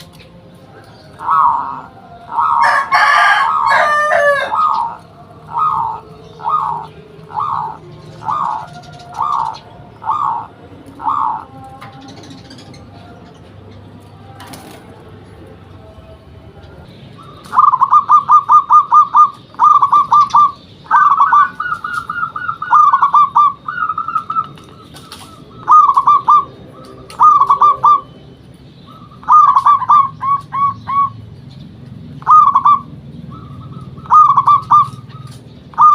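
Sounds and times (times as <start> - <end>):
dove cooing: 0.8 - 13.0, 17.2 - 31.4, 32.2 - 35.9.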